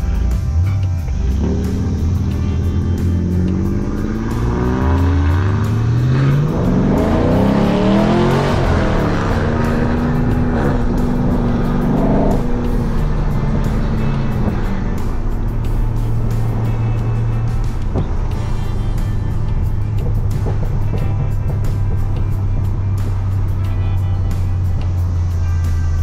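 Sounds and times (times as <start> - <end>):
car engine accelerating from inside: 0.0 - 26.0.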